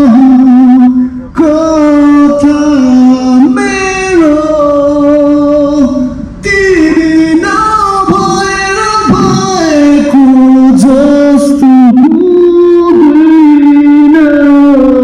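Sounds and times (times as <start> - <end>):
music with singing voice: 0.0 - 15.0.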